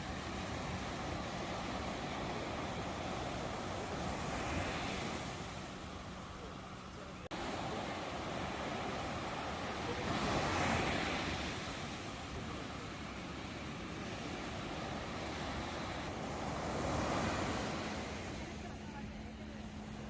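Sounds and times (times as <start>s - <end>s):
ocean surf washing ashore: 0.0s - 20.0s.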